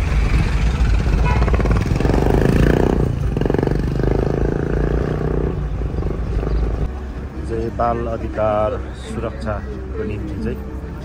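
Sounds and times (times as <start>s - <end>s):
engine rapid even pulsing: 0.0s - 9.3s.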